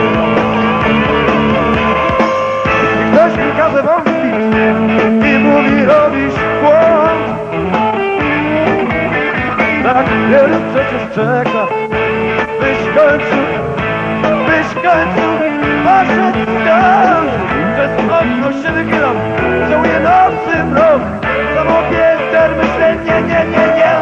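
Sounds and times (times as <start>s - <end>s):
bass: 0.0s - 24.0s
drums: 0.0s - 24.0s
electric guitar lead: 0.0s - 24.0s.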